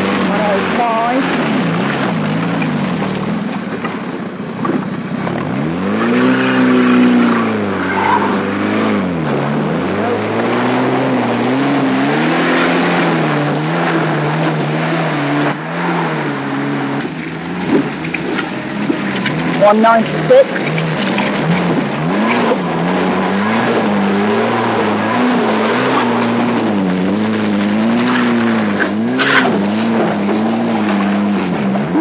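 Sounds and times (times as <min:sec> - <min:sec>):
car engine revving hard: 0:00.0 - 0:32.0.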